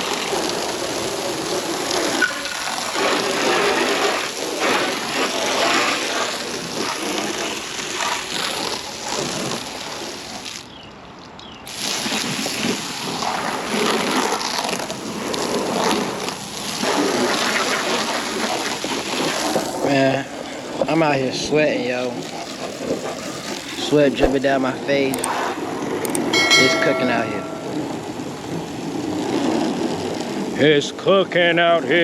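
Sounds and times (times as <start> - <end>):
water spraying on car: 0.0 - 10.8, 11.7 - 32.0.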